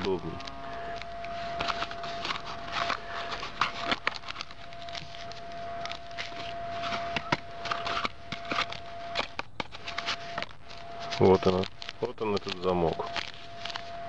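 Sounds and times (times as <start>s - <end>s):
cardboard box being opened: 0.0s - 13.9s
faint steady tone: 0.0s - 14.0s.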